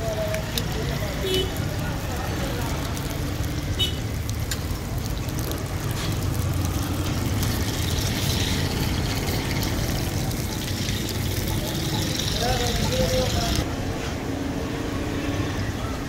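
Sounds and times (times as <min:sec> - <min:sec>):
oil sizzling on griddle: 0:00.2 - 0:13.7.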